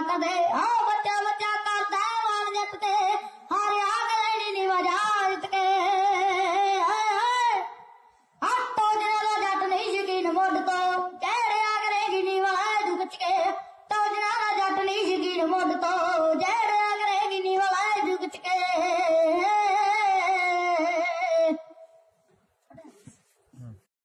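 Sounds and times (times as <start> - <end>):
boy singing into a microphone: 0.0 - 21.8.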